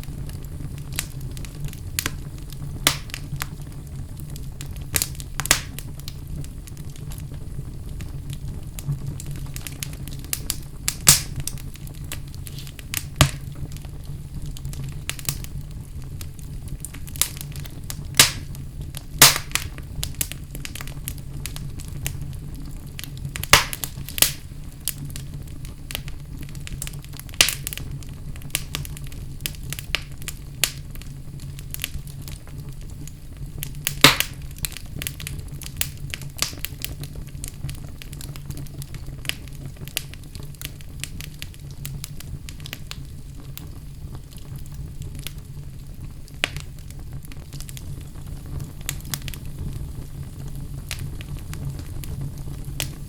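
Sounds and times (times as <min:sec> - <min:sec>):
loud sharp pops of fire: 0:00.0 - 0:53.0
wood fire crackling: 0:00.0 - 0:53.0.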